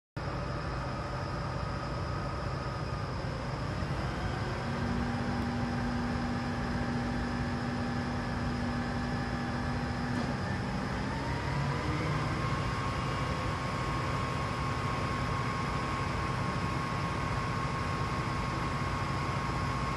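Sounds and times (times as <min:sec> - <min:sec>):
machine whines: 0:00.2 - 0:19.9
diesel engine rumbling: 0:00.8 - 0:17.4.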